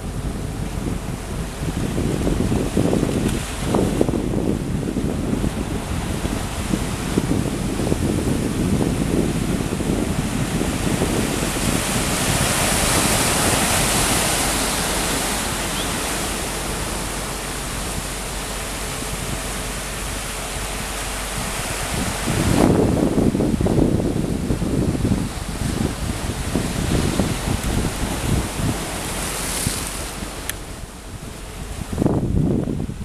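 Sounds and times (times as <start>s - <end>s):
sea noise: 0.0s - 33.0s
wind blowing across microphone: 0.0s - 33.0s.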